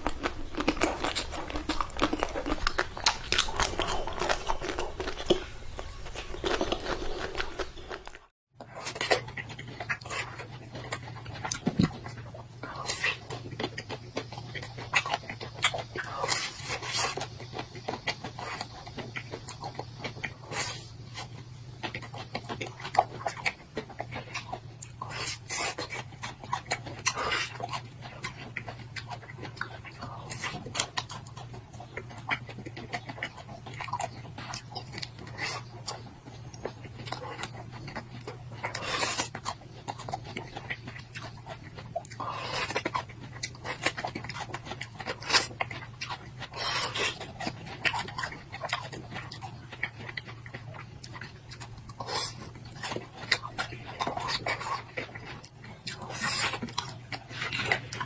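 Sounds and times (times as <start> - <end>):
crunchy bites into ice cream bar: 0.0 - 58.0
steady low hum: 0.0 - 58.0
wet chewing and slurping: 0.0 - 58.0.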